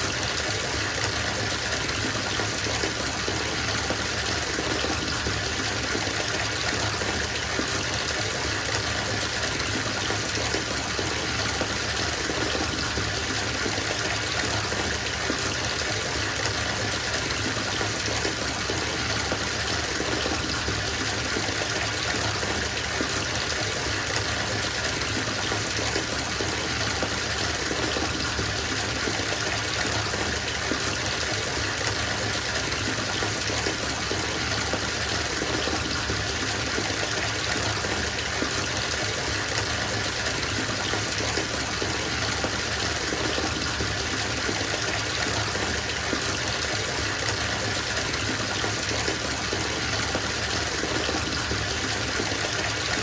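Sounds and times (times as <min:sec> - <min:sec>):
water pouring into bathtub: 0:00.0 - 0:53.0.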